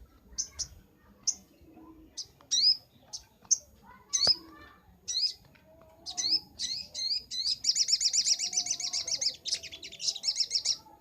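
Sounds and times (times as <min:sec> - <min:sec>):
bird chirps and rattling song: 0:00.0 - 0:11.0.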